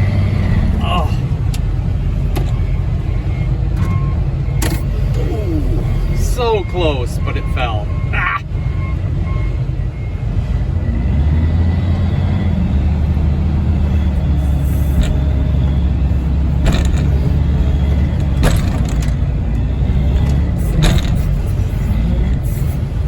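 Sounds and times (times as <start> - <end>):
tractor engine under load: 0.0 - 8.2, 10.0 - 23.0.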